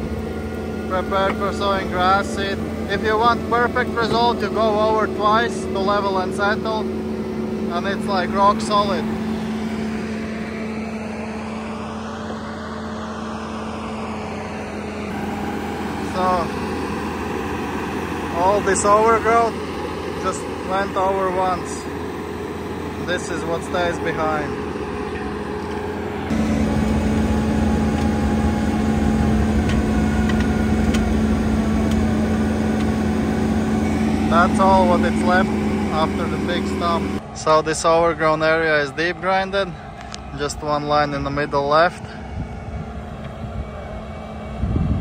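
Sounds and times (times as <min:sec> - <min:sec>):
track loader engine drone: 0:00.0 - 0:45.0.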